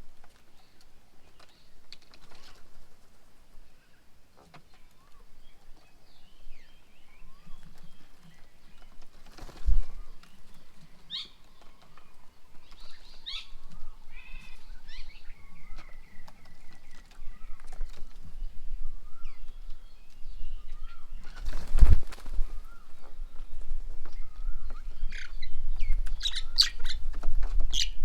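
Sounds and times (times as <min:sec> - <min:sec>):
birds calling and chirping: 0:00.1 - 0:28.0.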